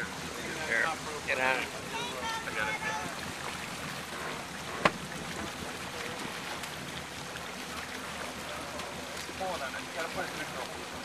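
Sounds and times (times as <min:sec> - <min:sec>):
motorboat idling: 0:00.0 - 0:11.0
water noise: 0:00.0 - 0:11.0
wind: 0:00.0 - 0:11.0.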